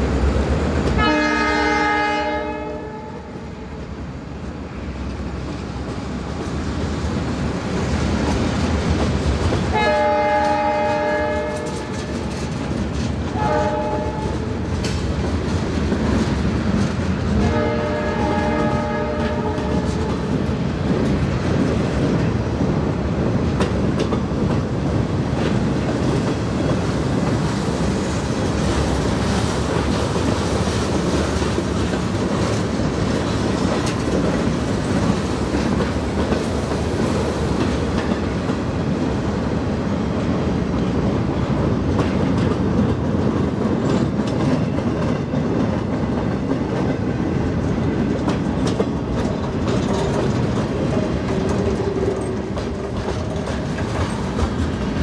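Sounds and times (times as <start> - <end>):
freight train rolling past: 0.0 - 55.0
clicking over rail joints: 5.0 - 39.4, 40.2 - 55.0.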